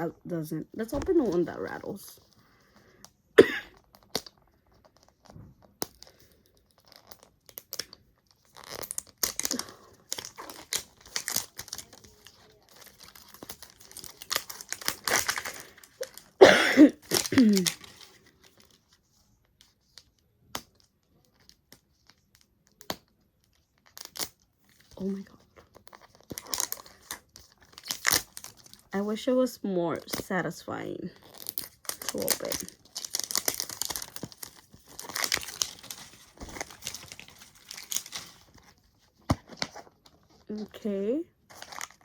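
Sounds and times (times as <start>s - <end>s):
plastic capsule clicks and crinkles: 3.0s - 16.4s, 17.0s - 18.9s, 19.9s - 28.9s, 31.2s - 40.8s, 41.4s - 42.0s.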